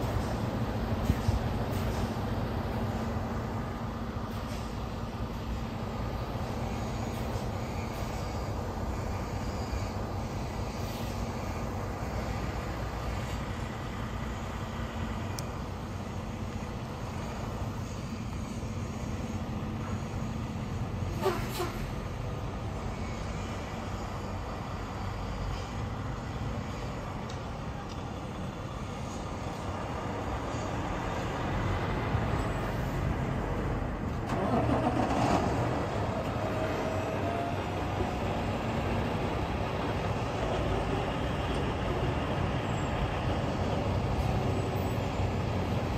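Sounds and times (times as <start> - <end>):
vehicle engines idling: 0.0 - 45.9.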